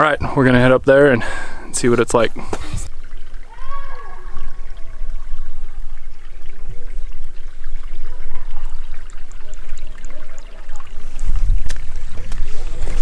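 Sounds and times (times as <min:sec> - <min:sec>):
stream trickling and splashing: 0:00.0 - 0:13.0.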